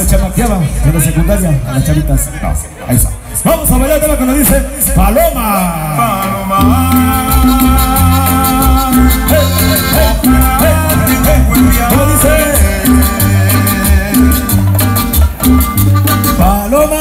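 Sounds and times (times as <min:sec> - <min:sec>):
cumbia song over sound system: 0:00.0 - 0:17.0.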